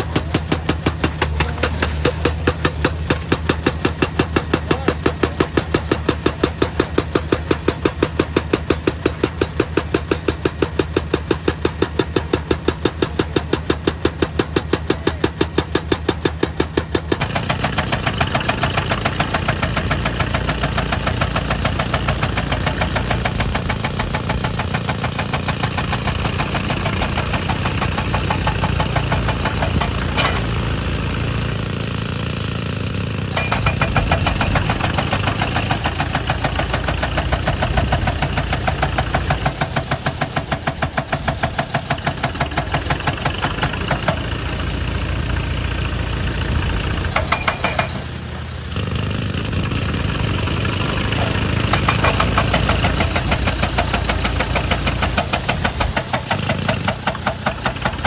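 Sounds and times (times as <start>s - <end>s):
diesel engine running: 0.0s - 58.0s
hydraulic rock breaker hammering: 0.0s - 58.0s.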